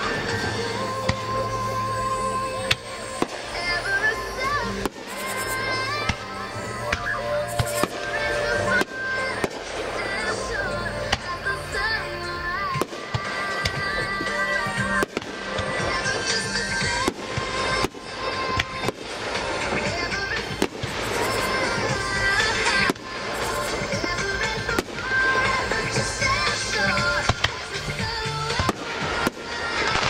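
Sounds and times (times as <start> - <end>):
fireworks bangs and crackling: 0.0 - 30.0
music: 0.0 - 30.0.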